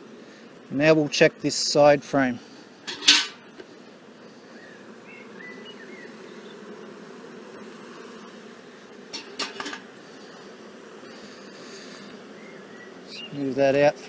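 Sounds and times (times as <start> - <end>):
bee smoker handling sounds: 0.0 - 14.0
bees buzzing: 0.0 - 14.0.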